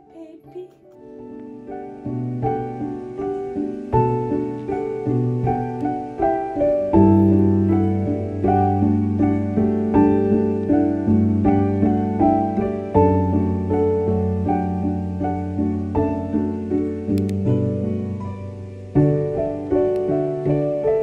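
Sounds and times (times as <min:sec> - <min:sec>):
gentle piano music: 0:00.0 - 0:21.0
deep bass piano notes: 0:01.1 - 0:21.0.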